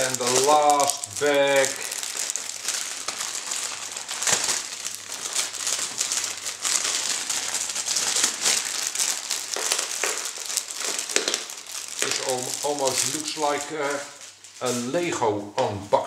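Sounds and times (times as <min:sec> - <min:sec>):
plastic bag crinkling: 0:00.0 - 0:15.1.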